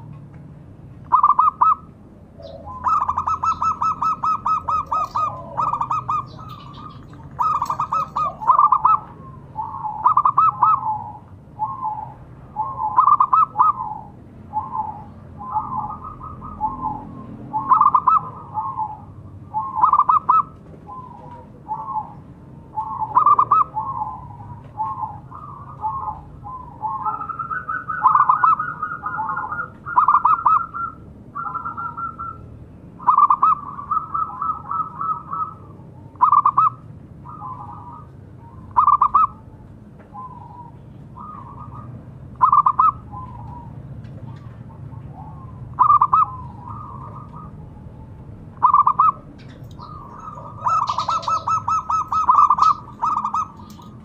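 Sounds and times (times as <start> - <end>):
dove cooing: 1.1 - 54.0.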